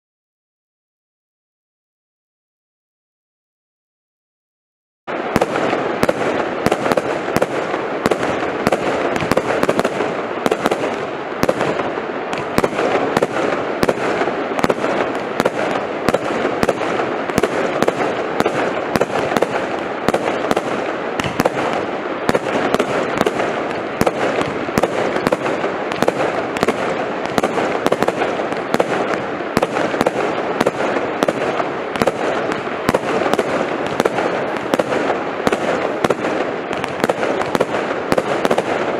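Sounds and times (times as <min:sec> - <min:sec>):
firework crackling with sharp cracks: 0:05.1 - 0:38.9.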